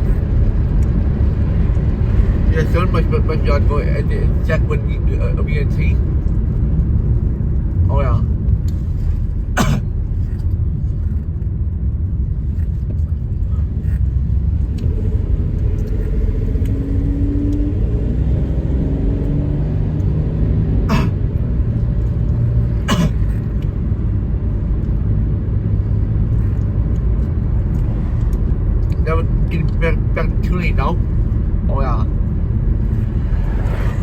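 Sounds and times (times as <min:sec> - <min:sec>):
engine and tyre rumble: 0:00.0 - 0:34.0.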